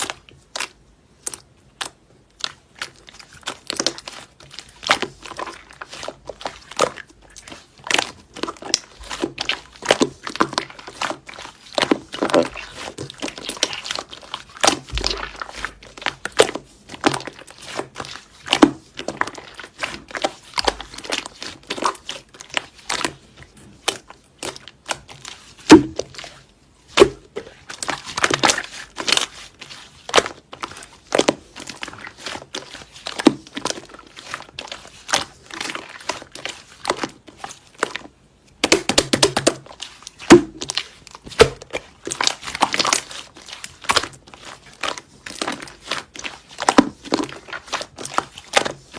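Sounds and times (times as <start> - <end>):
slime squished by hand: 0.0 - 48.9.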